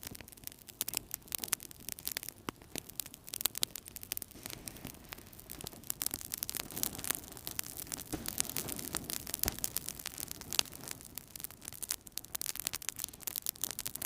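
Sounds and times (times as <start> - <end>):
wood fire crackling and popping: 0.0 - 14.0
low rush of flame: 0.4 - 14.0.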